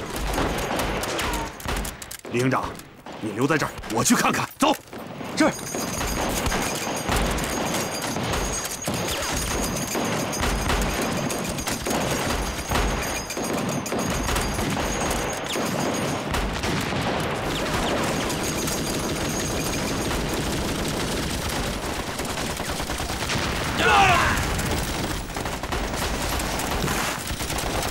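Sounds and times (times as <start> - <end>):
rifle and machine gun fire: 0.0 - 2.4, 5.0 - 27.9.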